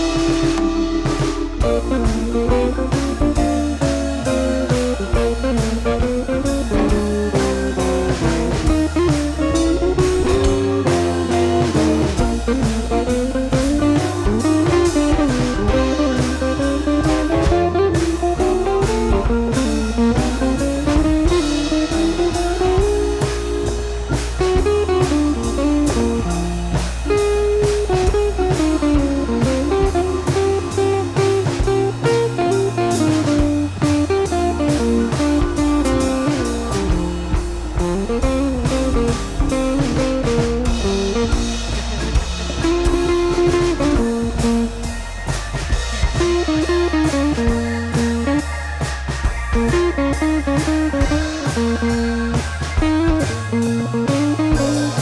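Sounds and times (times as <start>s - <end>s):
bass guitar: 0.0s - 55.0s
blues guitar: 0.0s - 55.0s
drum kit: 0.0s - 55.0s.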